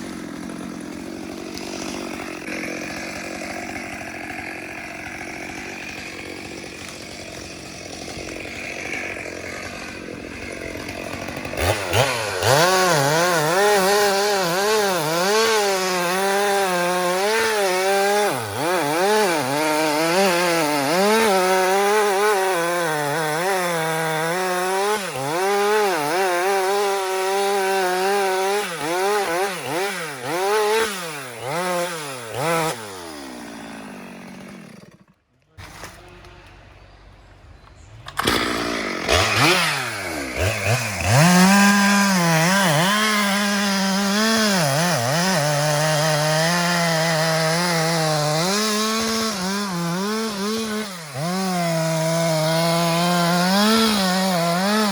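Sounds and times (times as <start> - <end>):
chainsaw cutting wood: 0.0 - 37.0, 37.6 - 54.9.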